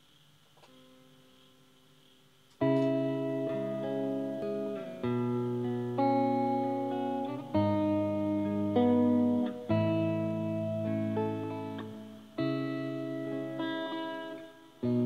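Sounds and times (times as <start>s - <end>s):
electric guitar chords: 2.6s - 15.0s.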